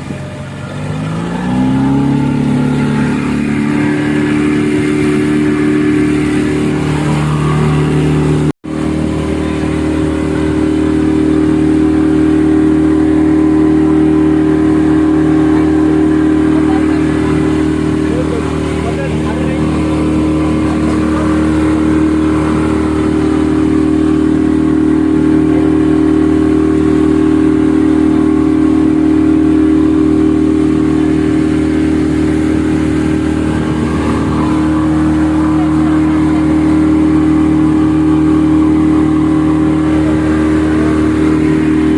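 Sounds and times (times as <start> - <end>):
motorboat engine droning: 0.0 - 41.9.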